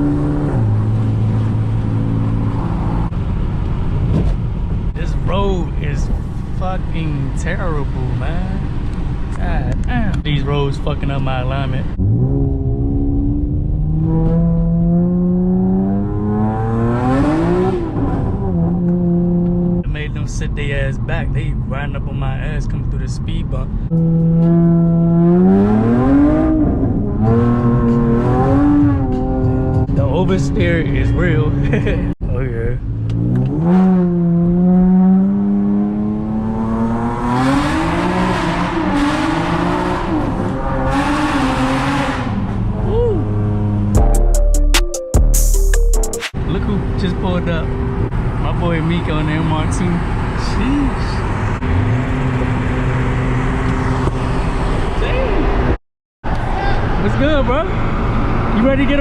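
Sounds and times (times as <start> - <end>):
car engine accelerating: 0.0 - 44.1, 46.2 - 59.0.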